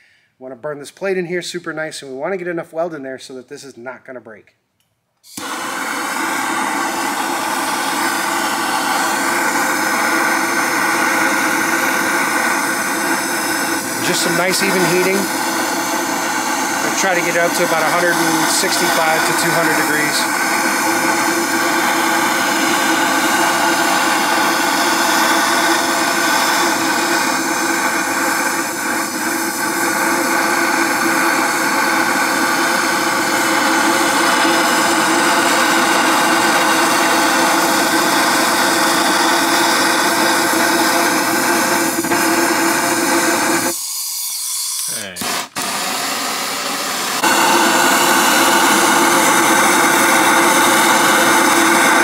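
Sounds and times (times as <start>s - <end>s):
gas torch hissing: 5.2s - 52.0s
heating tool rushing: 5.3s - 52.0s.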